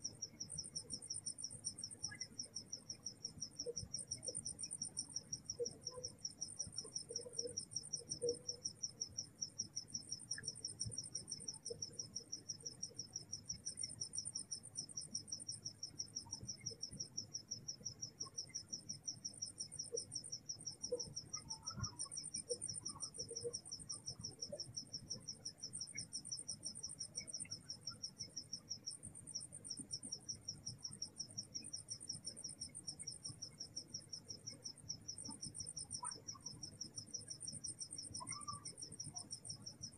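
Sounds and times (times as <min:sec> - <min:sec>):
high insect trill: 0:00.0 - 0:39.9
low insect trill: 0:00.0 - 0:39.9.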